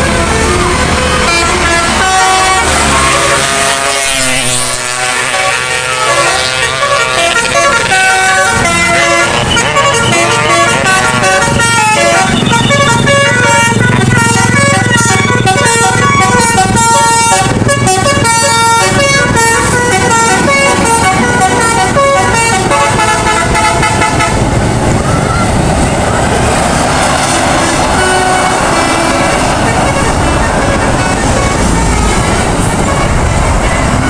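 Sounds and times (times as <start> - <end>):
bus engine rumbling: 0.0 - 34.0
musical bus air horn: 0.0 - 34.0.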